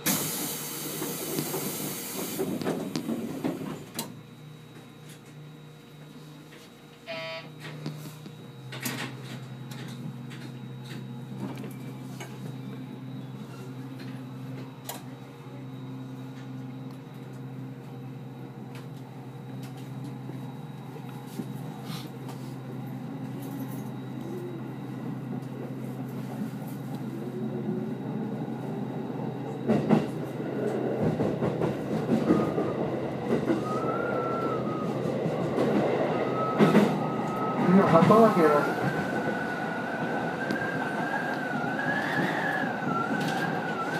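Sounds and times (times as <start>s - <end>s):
wheels rumbling and clacking on rails: 0.0s - 5.4s, 7.7s - 43.9s
electric train low hum: 0.0s - 43.9s
traction motors whining: 6.0s - 43.9s.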